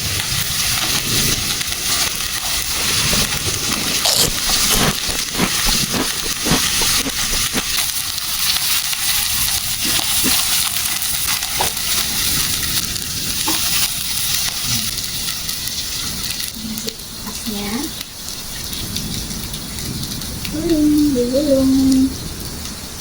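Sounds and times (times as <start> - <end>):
food sizzling on grill pan: 0.0 - 23.0.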